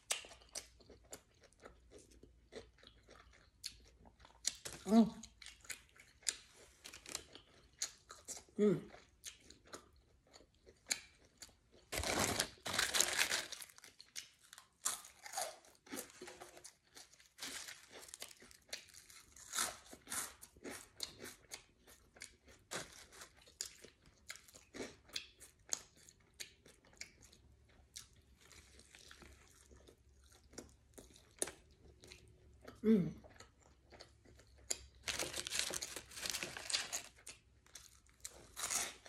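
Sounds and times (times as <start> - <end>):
person crunching snack: 0.0 - 32.2, 33.2 - 39.0.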